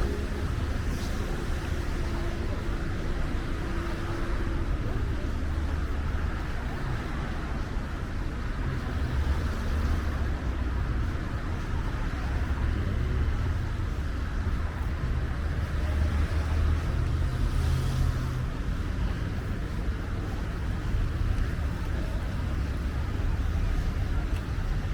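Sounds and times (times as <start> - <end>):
traffic rumble: 0.0 - 24.9.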